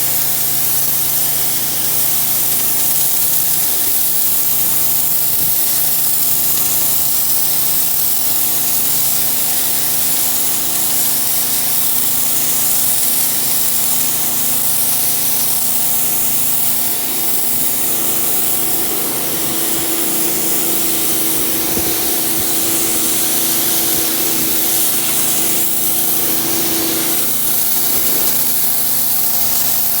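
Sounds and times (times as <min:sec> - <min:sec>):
pressure washer spraying: 0:00.0 - 0:30.0.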